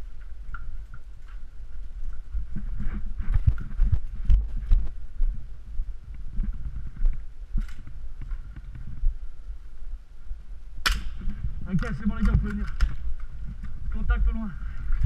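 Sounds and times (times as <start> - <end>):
footsteps: 0.0 - 10.4, 11.0 - 15.0.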